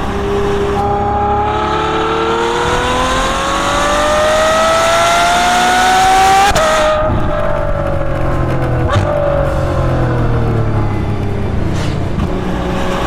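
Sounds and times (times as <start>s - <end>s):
car exhaust revving: 0.0s - 13.0s.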